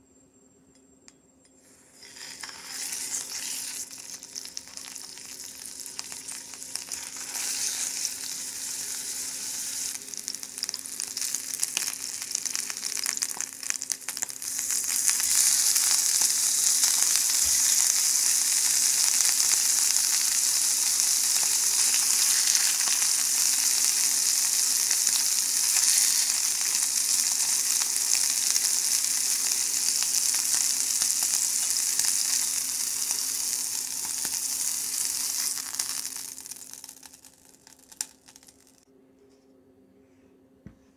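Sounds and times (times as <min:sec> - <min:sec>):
steaks sizzling in a frying pan: 0:02.0 - 0:38.5.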